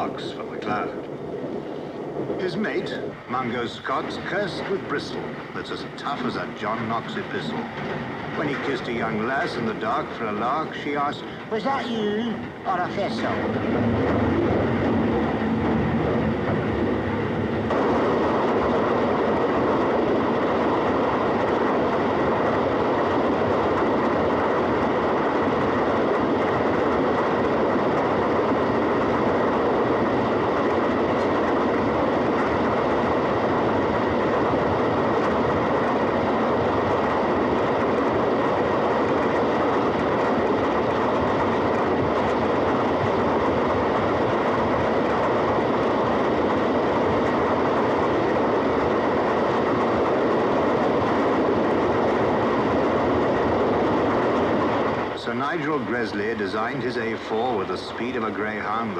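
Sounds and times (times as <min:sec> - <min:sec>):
train rushing at speed: 0:00.0 - 0:58.9
wheels clattering on track: 0:00.0 - 0:58.9.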